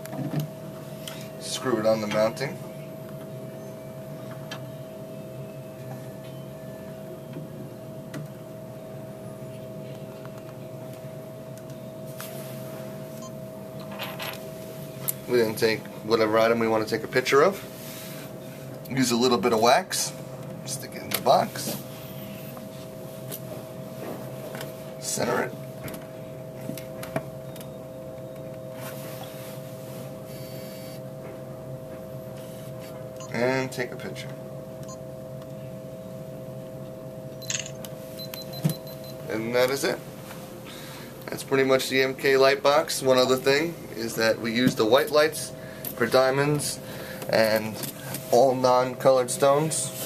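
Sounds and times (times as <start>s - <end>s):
high whine: 0.0s - 50.0s
steady hum: 0.0s - 50.0s.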